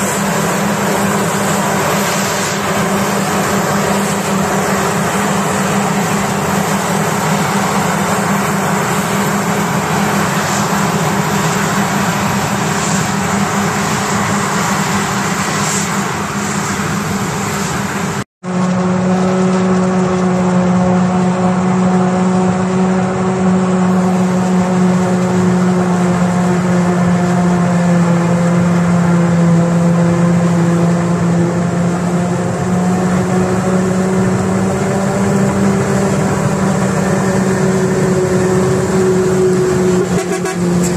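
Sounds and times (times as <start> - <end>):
diesel farm machinery engine drone: 0.0 - 40.9.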